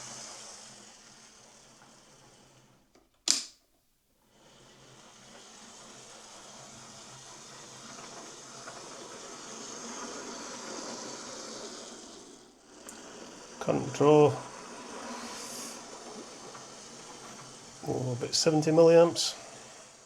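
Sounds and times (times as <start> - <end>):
model train motor whirring on rails: 0.0 - 3.1, 4.3 - 20.0.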